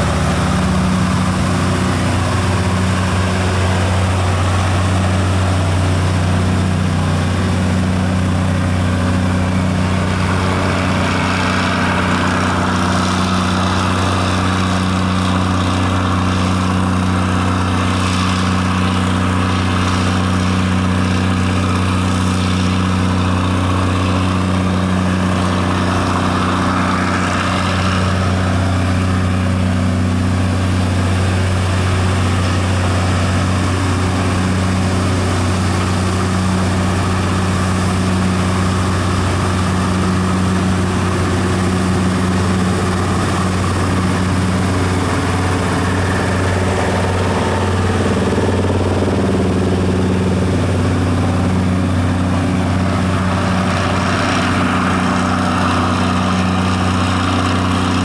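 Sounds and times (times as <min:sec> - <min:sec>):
crane engine droning: 0:00.0 - 0:58.0.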